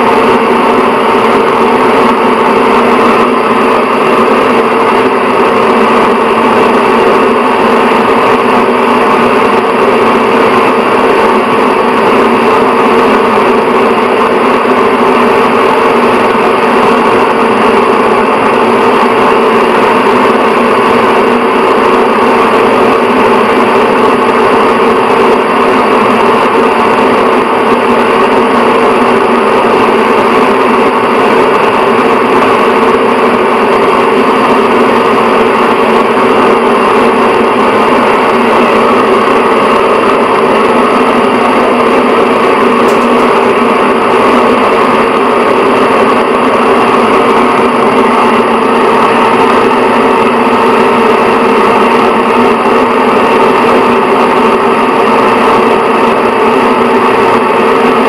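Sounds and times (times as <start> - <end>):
exhaust fan humming: 0.0 - 58.0.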